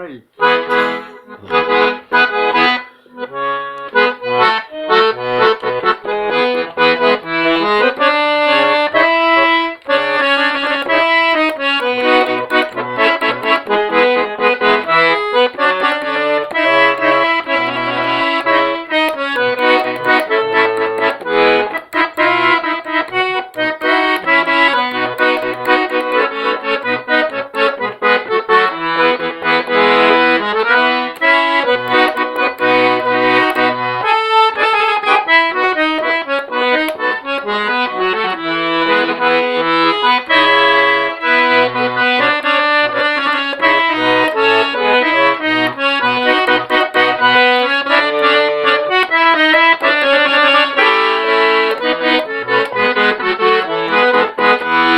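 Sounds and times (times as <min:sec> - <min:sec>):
accordion playing lively tune: 0:00.4 - 0:54.9.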